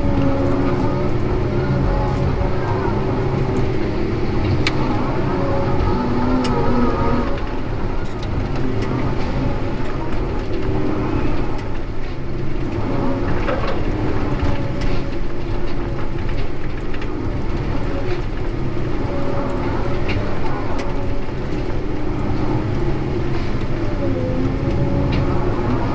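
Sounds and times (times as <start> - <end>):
diesel machinery engine rumble: 0.0 - 25.9
hydraulic whine: 0.0 - 25.9.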